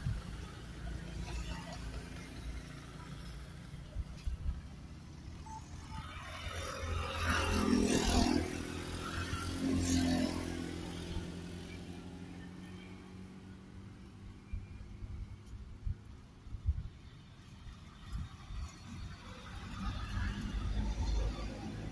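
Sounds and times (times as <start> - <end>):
motorcycle passing: 0.0 - 21.9
road traffic passing: 0.0 - 21.9.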